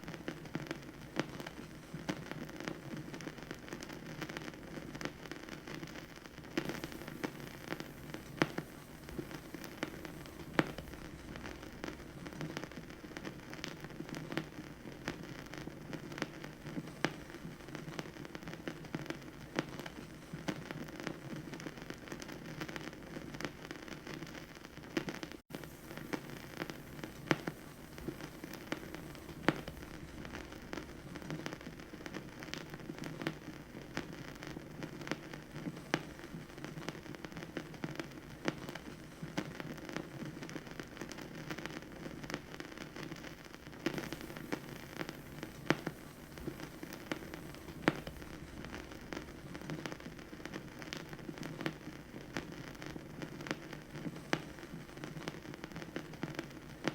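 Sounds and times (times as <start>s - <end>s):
vinyl record crackle and pops: 0.0s - 56.9s.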